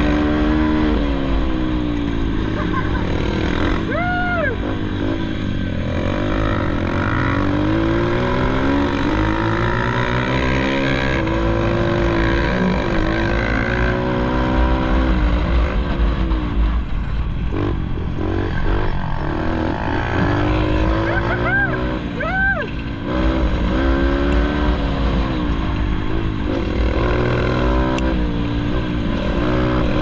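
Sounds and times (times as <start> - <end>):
pit bike engine revving: 0.0 - 30.0.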